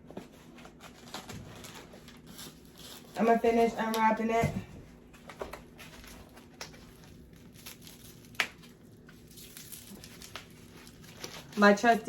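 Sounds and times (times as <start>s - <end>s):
plastic packaging crinkling: 0.2s - 4.4s, 5.2s - 12.0s.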